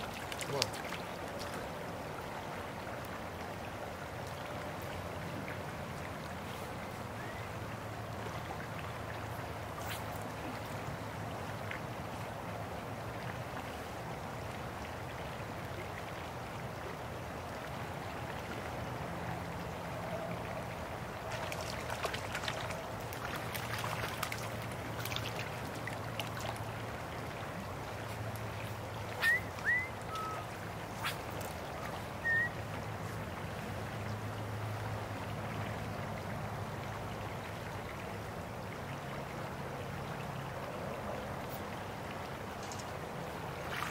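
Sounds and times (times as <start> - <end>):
creek water flowing: 0.0 - 43.9.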